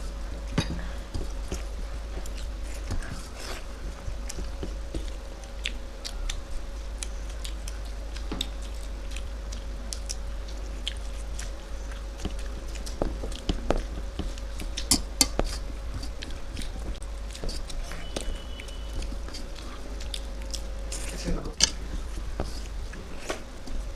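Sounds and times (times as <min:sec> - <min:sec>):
faint steady hum: 0:00.0 - 0:23.9
people chewing and biting: 0:00.0 - 0:23.9.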